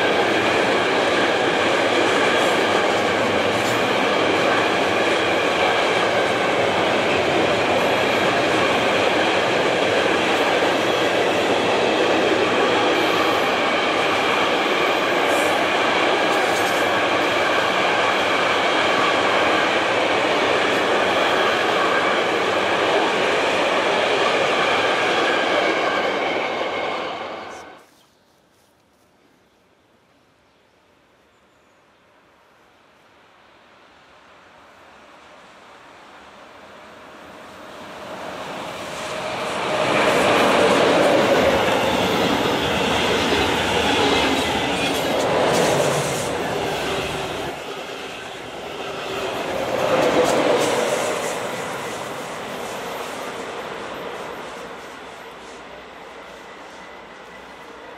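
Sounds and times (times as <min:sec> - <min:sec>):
train wheels rumbling on rails: 0:00.0 - 0:27.8, 0:36.9 - 0:57.9.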